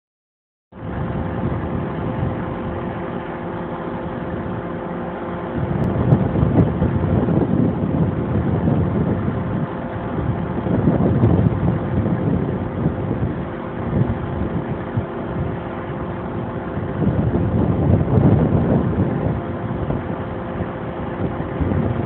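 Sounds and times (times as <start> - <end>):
diesel train idling hum: 0.8 - 22.0
uneven rumble: 0.8 - 22.0.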